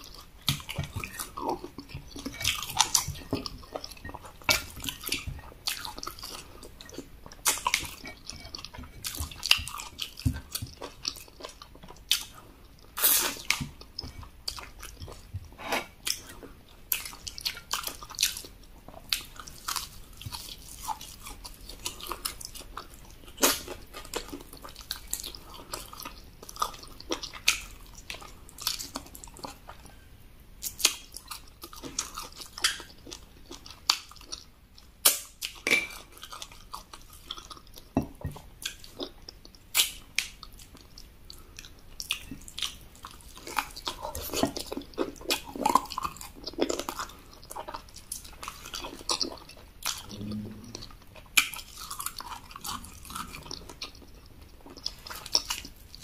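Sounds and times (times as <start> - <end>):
wet chewing and mouth smacking: 0.0 - 56.0.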